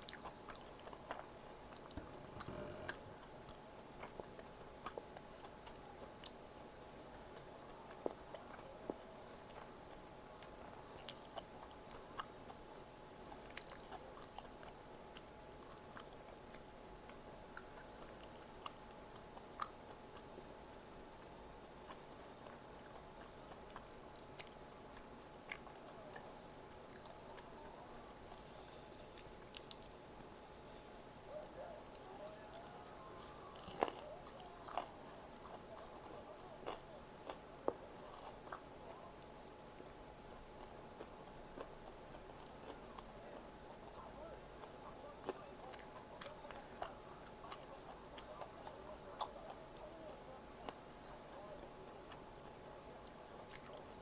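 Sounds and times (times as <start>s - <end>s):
person chewing food: 0.0s - 6.4s, 7.2s - 20.4s, 21.2s - 54.0s
faint steady hum: 0.0s - 54.0s.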